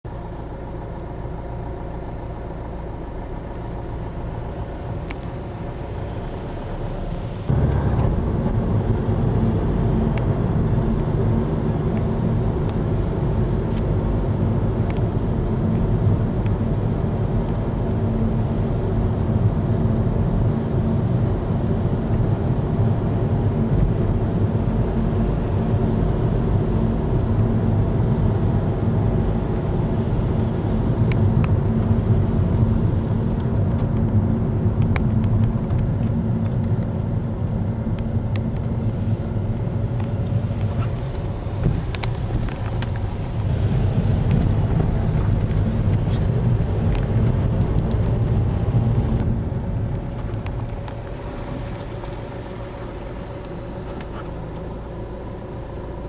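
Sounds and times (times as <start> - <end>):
car engine drone and road noise: 0.0 - 56.0.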